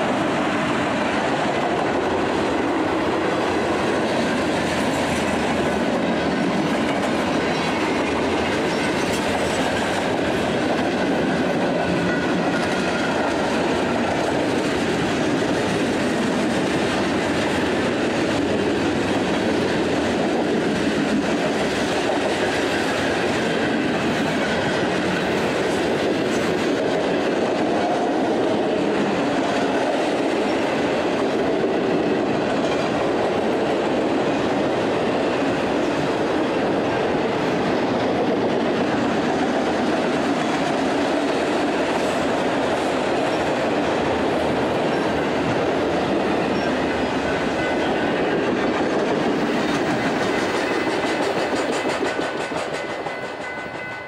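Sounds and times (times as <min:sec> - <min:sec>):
clickety-clack over rail joints: 0:00.0 - 0:54.0
steel train wheels rumbling on rails: 0:00.0 - 0:54.0.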